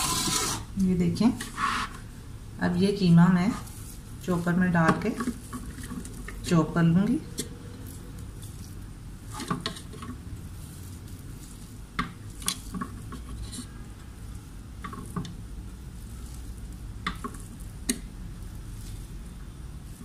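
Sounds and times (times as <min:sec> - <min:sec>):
low background hum: 0:00.0 - 0:20.0
meat handling noise: 0:00.0 - 0:20.0.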